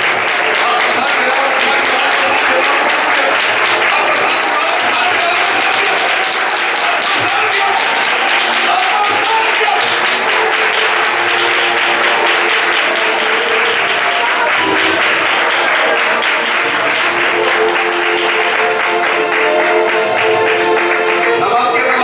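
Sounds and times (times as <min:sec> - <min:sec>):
crowd clapping: 0:00.0 - 0:22.0.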